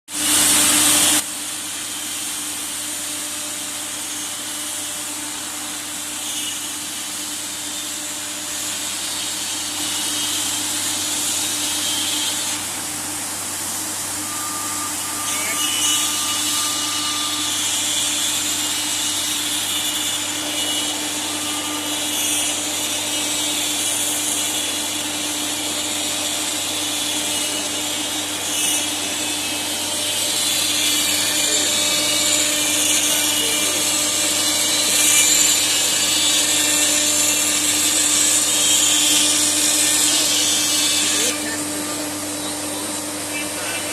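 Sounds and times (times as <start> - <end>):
cnc router humming and whining: 0.2 - 43.9.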